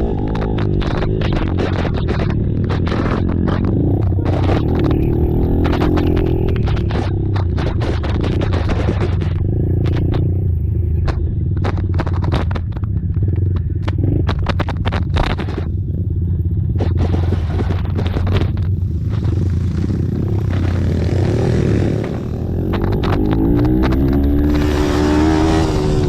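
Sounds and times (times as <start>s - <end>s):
atv engines running: 0.0s - 26.0s
engine crackles and knocks: 0.0s - 26.0s.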